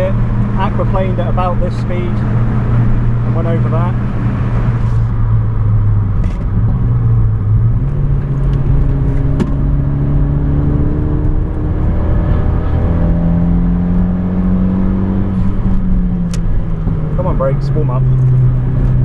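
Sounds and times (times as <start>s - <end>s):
car engine under load: 0.0s - 19.0s.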